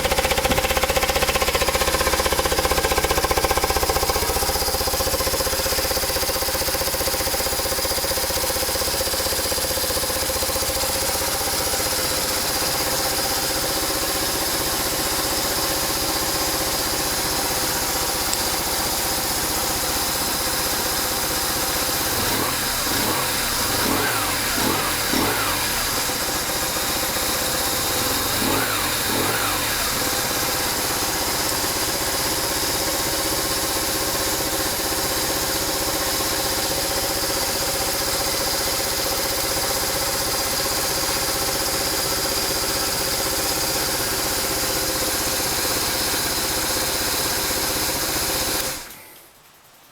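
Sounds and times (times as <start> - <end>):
motorcycle engine revving: 0.0 - 49.2
motorcycle engine idling: 0.0 - 49.9.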